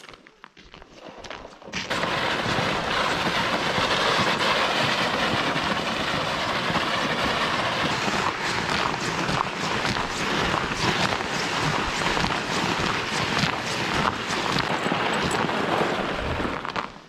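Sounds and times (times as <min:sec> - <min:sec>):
toboggan scraping over ice: 0:00.9 - 0:17.0.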